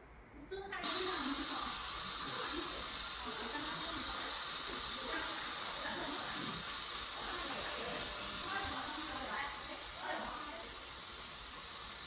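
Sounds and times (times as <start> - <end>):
welding machine hissing: 0.8 - 12.0.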